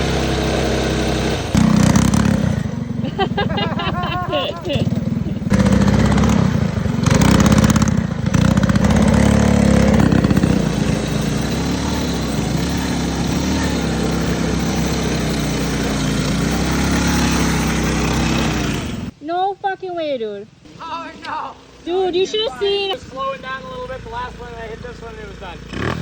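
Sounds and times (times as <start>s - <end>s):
mini bike engine revving: 0.0s - 19.1s, 22.0s - 26.0s.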